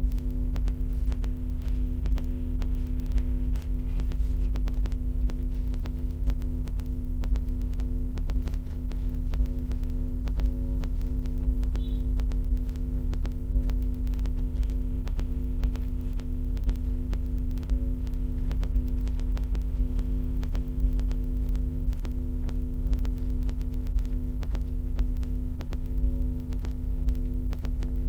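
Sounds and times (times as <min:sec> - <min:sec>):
electrical hum with rumble: 0:00.0 - 0:28.0
short irregular clicks: 0:04.5 - 0:28.0.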